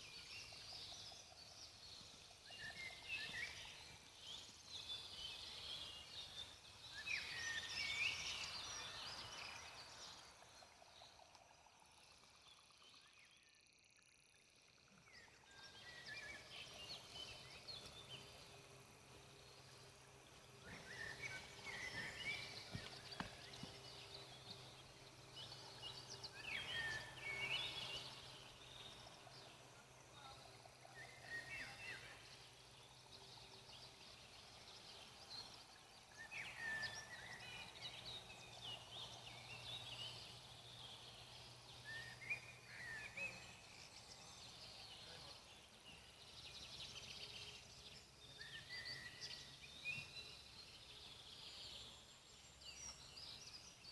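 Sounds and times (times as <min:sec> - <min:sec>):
faint steady hiss: 0:00.0 - 0:53.9.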